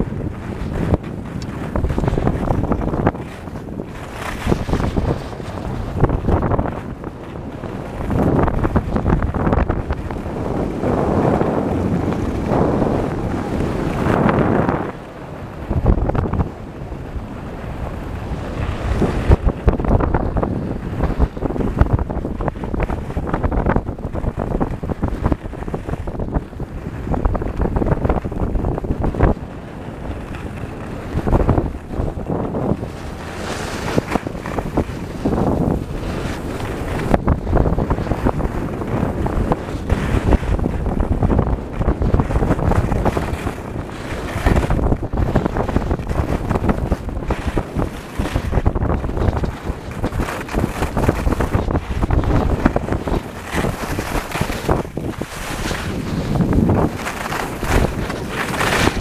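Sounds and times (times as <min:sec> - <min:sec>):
skis scraping packed snow: 0:00.0 - 0:59.0
wind buffeting microphone: 0:00.0 - 0:59.0.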